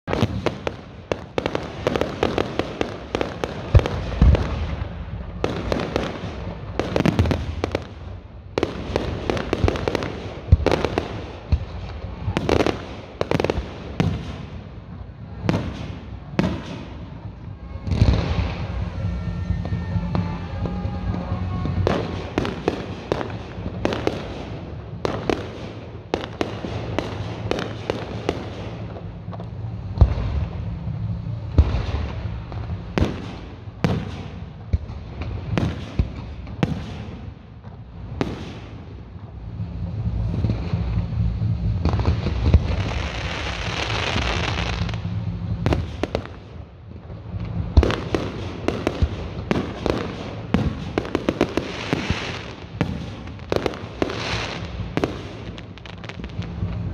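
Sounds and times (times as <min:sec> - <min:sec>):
fireworks bursts and bangs: 0:00.0 - 0:56.9
fireworks crackling: 0:00.0 - 0:56.9.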